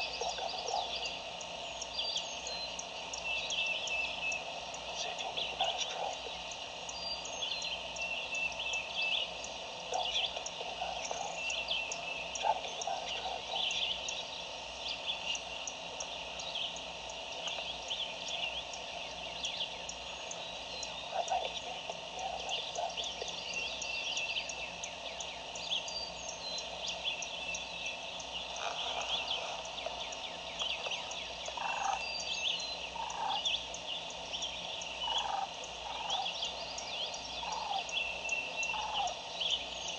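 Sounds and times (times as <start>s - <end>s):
chorus of high chirping calls: 0.0s - 1.3s, 3.8s - 14.3s, 19.6s - 39.9s.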